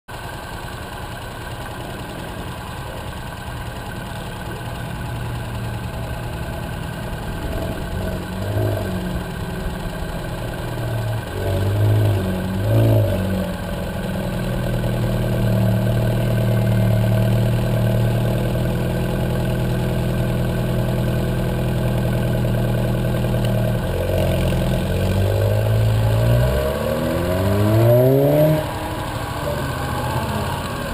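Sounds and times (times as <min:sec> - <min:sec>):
car engine revving: 0:00.3 - 0:30.9.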